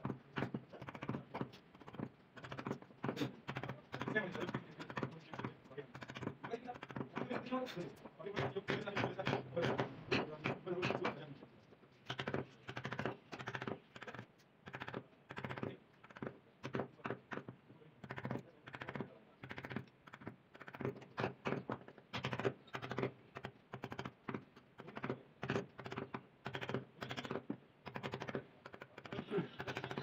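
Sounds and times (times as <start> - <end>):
mallet tapping chisel into wood: 0.0 - 7.6, 8.3 - 11.2, 12.1 - 30.0.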